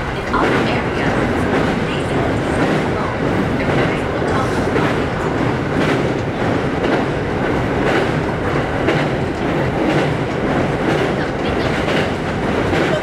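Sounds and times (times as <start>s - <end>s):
train rumbling on rails: 0.0s - 13.0s
wheels clickety-clack on rail joints: 0.0s - 13.0s.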